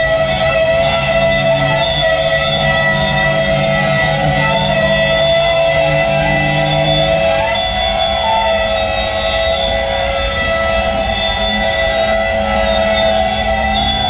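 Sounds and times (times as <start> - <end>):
low rumble of train: 0.0 - 14.0
train wheels squealing: 0.0 - 14.0.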